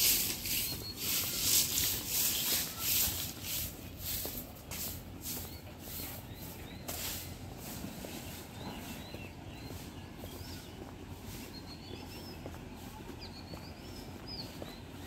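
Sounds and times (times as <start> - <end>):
wavering high bird calls: 0.0 - 3.4, 5.3 - 15.0
small birds chirping: 0.0 - 15.0.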